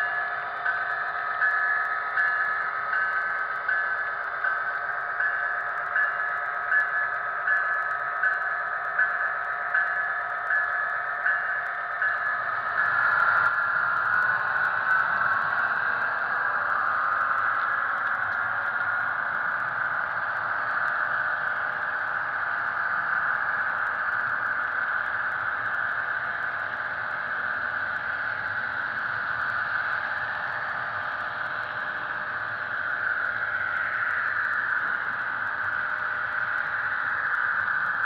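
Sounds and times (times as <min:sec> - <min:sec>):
model train diesel engine hum: 0:00.0 - 0:38.0.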